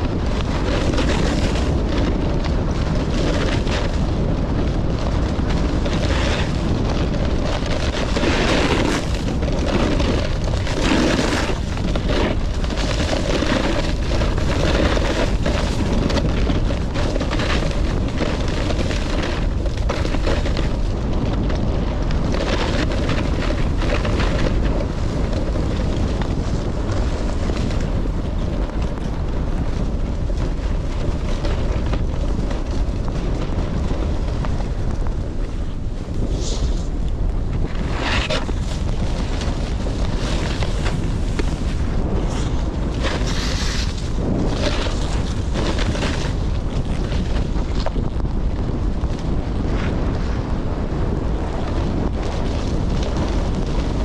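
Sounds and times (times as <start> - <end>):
snowboard scraping over snow: 0.0 - 54.0
wind buffeting microphone: 0.0 - 54.0.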